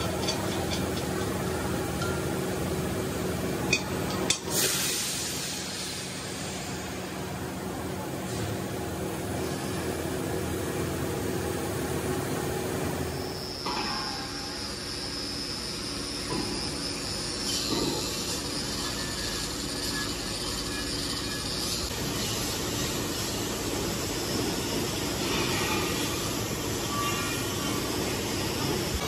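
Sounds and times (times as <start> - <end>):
machinery hum and hiss: 0.0 - 29.0.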